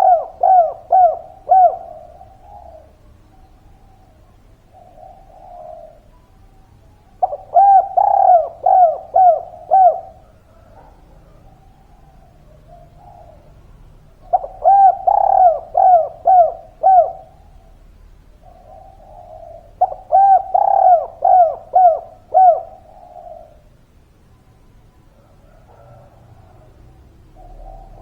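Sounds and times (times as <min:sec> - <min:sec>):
dove cooing: 0:00.0 - 0:24.2, 0:24.8 - 0:28.0
soft low murmur: 0:00.0 - 0:28.0.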